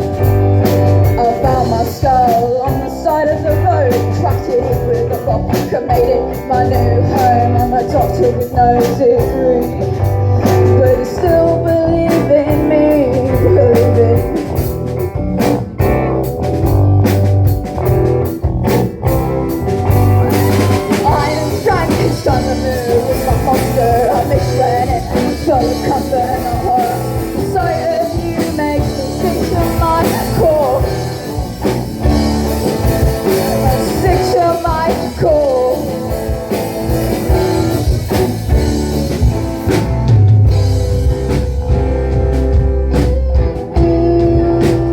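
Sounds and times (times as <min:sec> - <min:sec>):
guitar lead with bending notes: 0:00.0 - 0:44.9
live rock band playing: 0:00.0 - 0:44.9.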